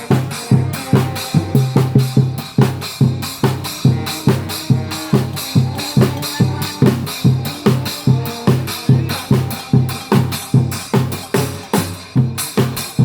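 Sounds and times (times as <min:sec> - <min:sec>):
brass band playing: 0:00.0 - 0:13.0
heavy bass drum beats: 0:00.0 - 0:13.0.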